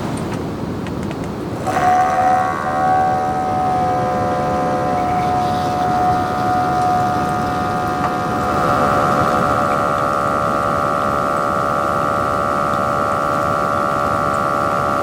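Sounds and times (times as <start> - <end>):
sustained chord of tones: 1.6 - 15.0.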